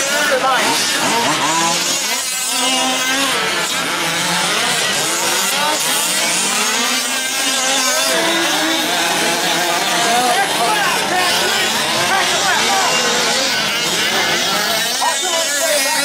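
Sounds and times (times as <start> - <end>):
small two-stroke engines revving: 0.0 - 16.0.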